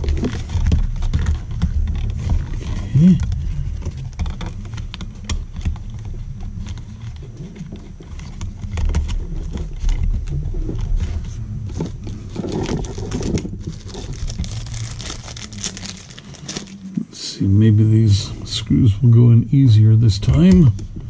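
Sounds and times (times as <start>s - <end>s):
plastic clicks and scrapes: 0.0s - 17.1s.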